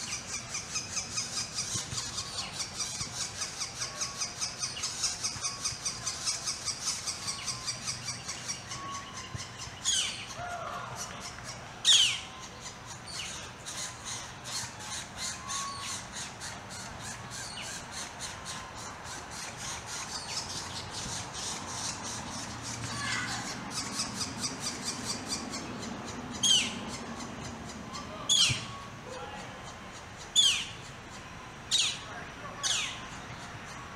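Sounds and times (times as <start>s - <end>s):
nestlings begging calls: 0.0s - 29.0s, 29.6s - 33.8s.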